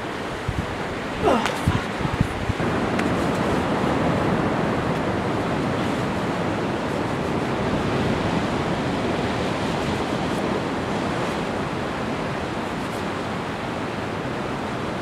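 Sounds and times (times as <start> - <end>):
ocean surf breaking on rocks: 0.0 - 15.0.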